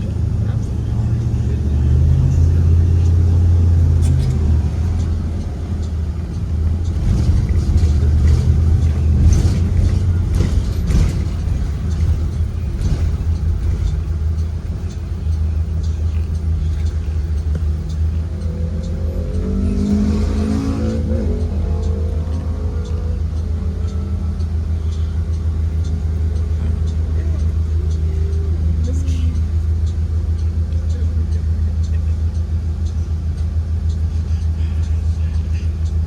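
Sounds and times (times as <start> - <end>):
bus engine rumbling: 0.0 - 36.0
road noise: 0.0 - 36.0
rattles: 2.1 - 34.6.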